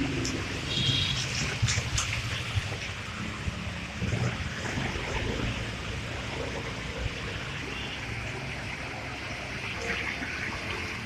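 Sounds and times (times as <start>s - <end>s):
rain hissing: 0.0s - 11.0s.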